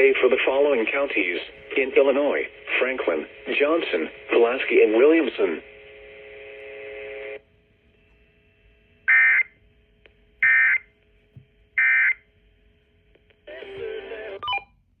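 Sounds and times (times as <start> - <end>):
broadcast audio: 0.0 - 14.7
faint steady hum: 0.0 - 15.0.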